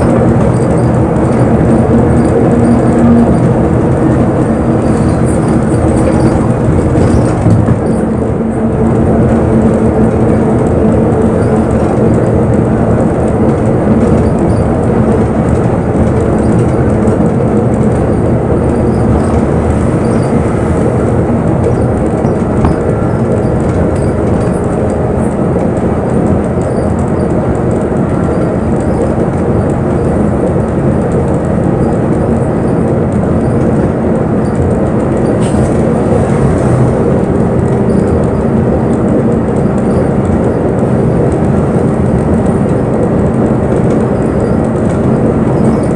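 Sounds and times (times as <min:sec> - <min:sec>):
bus engine drone: 0:00.0 - 0:45.9
road noise: 0:00.0 - 0:45.9.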